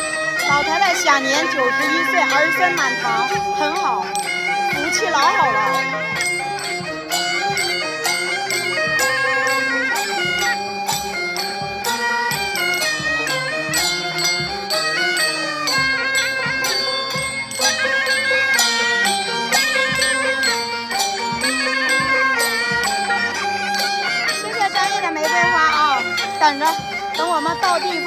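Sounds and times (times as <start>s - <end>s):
percussion strokes: 0.0s - 28.0s
reedy wind instrument melody: 0.0s - 28.0s.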